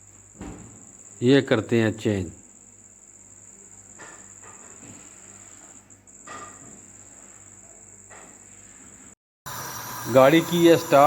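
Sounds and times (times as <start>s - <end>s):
cricket trilling: 0.3s - 8.8s, 9.5s - 11.0s.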